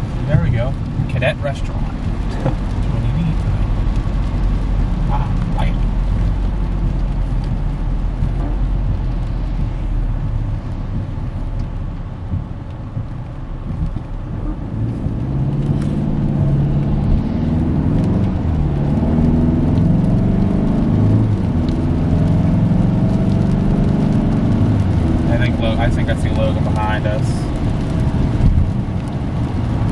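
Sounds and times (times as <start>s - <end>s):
car engine: 0.0s - 29.9s
road noise: 0.0s - 29.9s.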